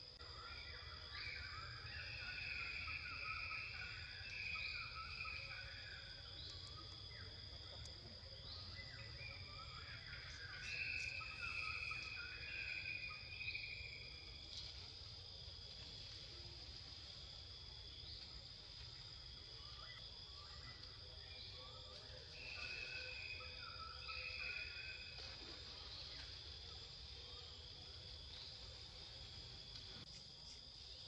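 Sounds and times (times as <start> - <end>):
insect chirping call: 0.0 - 31.0
insect steady high trill: 0.0 - 31.0.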